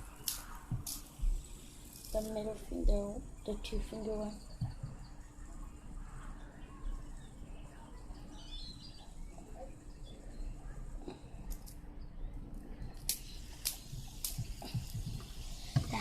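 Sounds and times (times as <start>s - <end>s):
fidget spinner low rumble: 0.0s - 16.0s.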